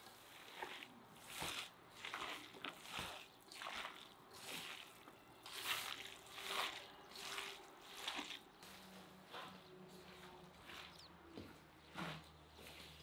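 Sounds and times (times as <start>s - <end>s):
hands squishing minced meat: 0.0s - 11.2s.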